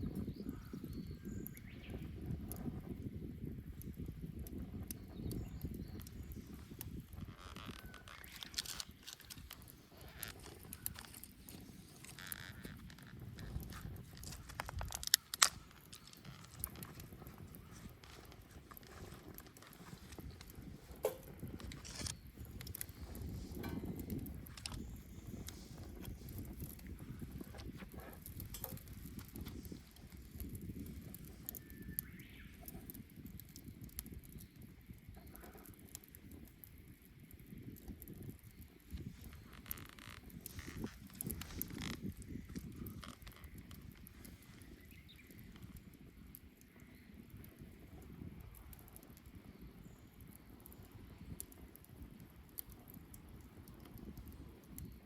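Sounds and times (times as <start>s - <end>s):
bonfire crackling: 0.0s - 55.0s.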